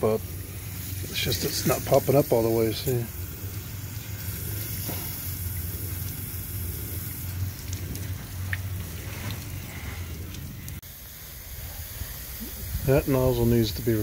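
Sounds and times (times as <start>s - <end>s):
sprinkler water spattering: 0.0s - 14.0s
steady low rumble: 0.0s - 14.0s.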